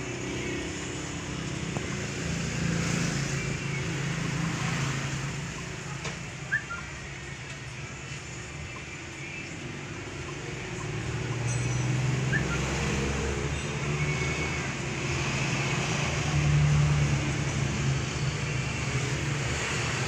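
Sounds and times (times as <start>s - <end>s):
passing vehicles rumbling: 0.0s - 20.0s.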